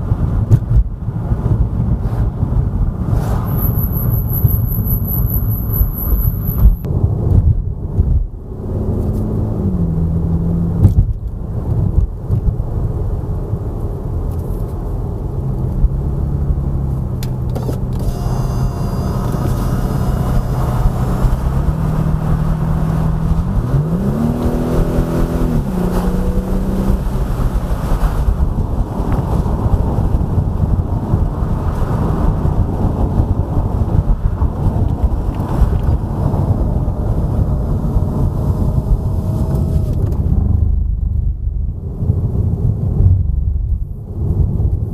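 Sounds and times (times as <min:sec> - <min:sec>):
car engine: 0:00.0 - 0:44.9
tyre and road noise: 0:00.0 - 0:44.9.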